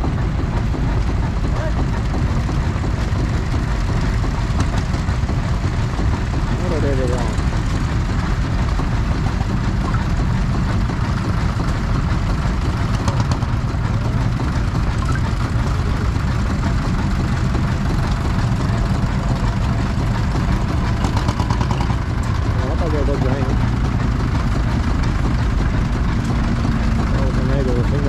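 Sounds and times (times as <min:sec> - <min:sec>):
tractor engines droning: 0:00.0 - 0:28.0.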